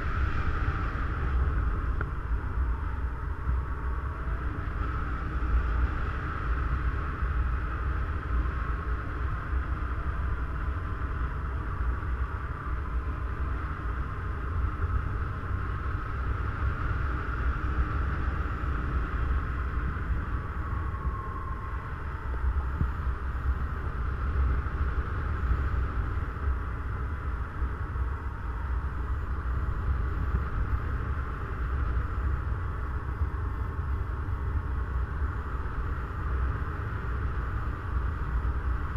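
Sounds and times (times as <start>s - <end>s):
airflow buffeting rumble and hiss: 0.0s - 38.9s.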